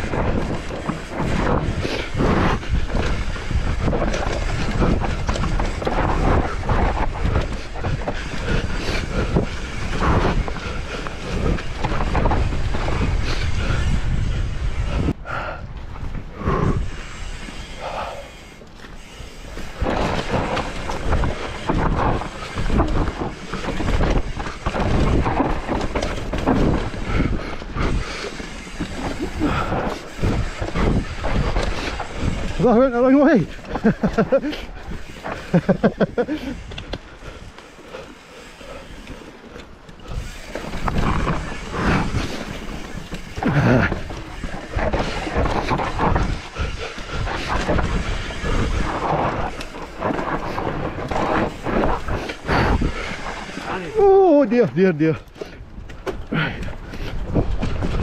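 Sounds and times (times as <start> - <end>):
heavy rumble: 0.0 - 58.0
mountain bike rattling over trail: 0.0 - 58.0.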